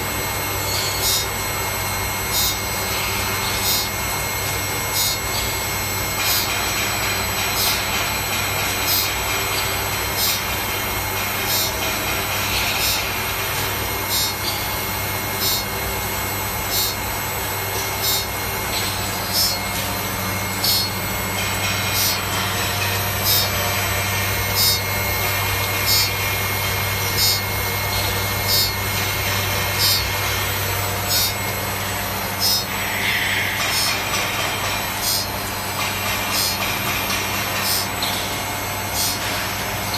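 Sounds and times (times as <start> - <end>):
motor hum: 0.0 - 39.9.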